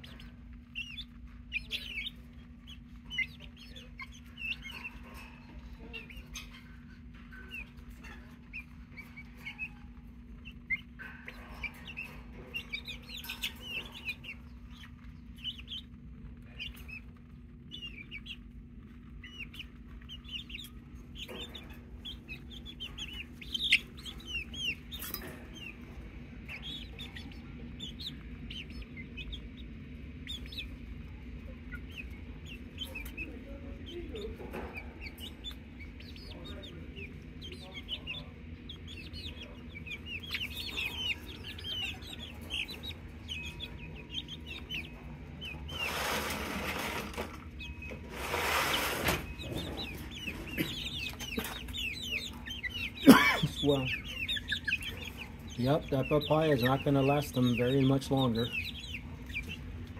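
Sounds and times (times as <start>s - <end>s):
beaks tapping: 0.0s - 59.9s
chicks chirping: 0.0s - 59.9s
hens clucking softly: 0.0s - 59.9s
steady low hum: 0.0s - 59.9s.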